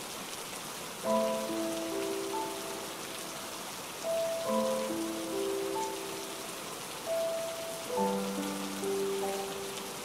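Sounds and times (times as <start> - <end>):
rain splashing into water: 0.0 - 10.0
soft music with held notes: 1.0 - 10.0.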